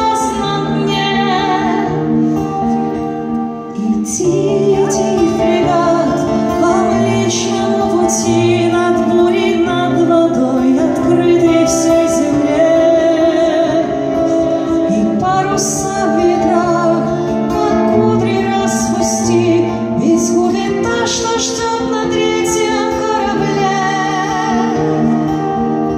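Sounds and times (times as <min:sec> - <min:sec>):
acoustic guitar: 0:00.0 - 0:25.9
woman singing slow melody: 0:00.0 - 0:25.9.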